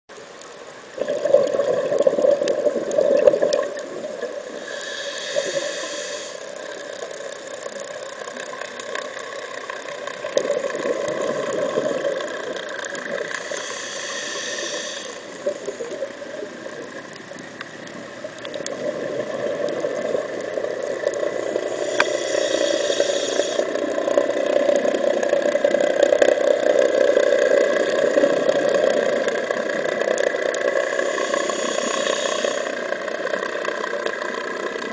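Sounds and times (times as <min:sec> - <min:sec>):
exhaled bubbles rumbling: 0:00.8 - 0:04.7, 0:07.3 - 0:13.5, 0:15.2 - 0:34.9
regulator hiss on inhale: 0:02.2 - 0:34.9.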